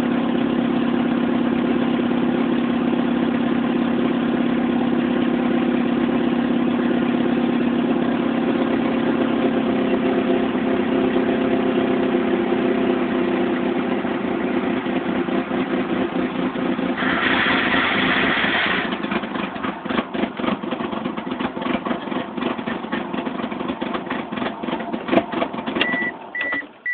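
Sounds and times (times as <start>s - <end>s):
car engine running roughly: 0.0s - 26.9s.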